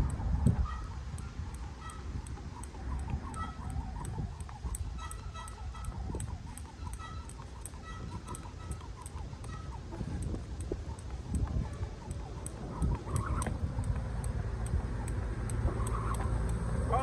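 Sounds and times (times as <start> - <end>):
fast even ticking: 0.0 - 17.0
wind buffeting microphone: 0.0 - 17.0.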